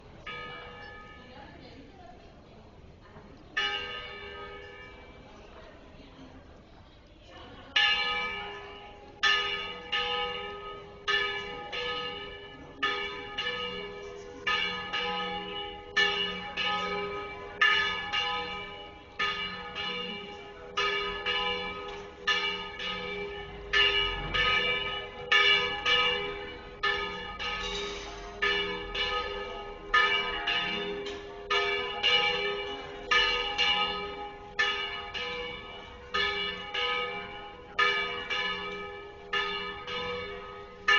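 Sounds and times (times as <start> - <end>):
church bells ringing: 0.0 - 1.6, 3.6 - 5.3, 7.7 - 40.9.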